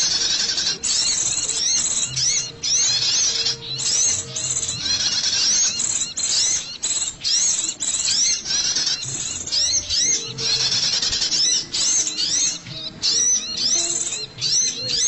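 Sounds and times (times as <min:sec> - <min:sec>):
buzzy rattling bird notes: 0:00.0 - 0:15.0
high sharp bird chirps: 0:00.0 - 0:15.0.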